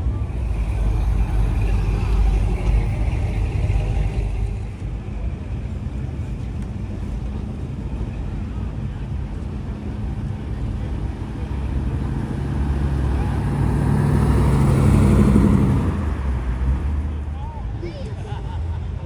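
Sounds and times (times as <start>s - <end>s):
car driving past: 0.0s - 17.5s.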